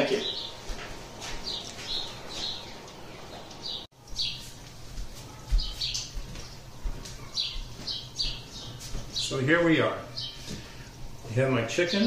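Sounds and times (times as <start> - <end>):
bird chirping: 0.0 - 0.7, 1.4 - 4.6, 5.2 - 11.2.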